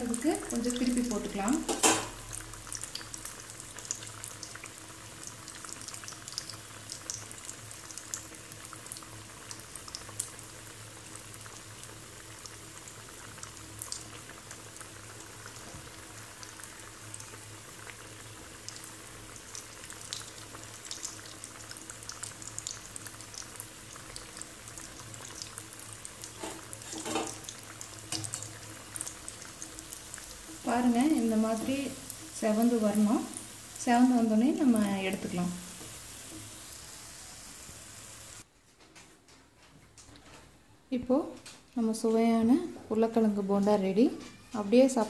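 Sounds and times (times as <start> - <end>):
deep-frying in hot oil: 0.0 - 38.5, 41.0 - 45.0.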